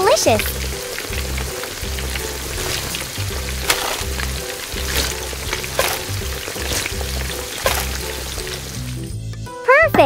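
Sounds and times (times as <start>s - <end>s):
oil sizzling and crackling: 0.0s - 9.2s
background music: 0.0s - 10.0s.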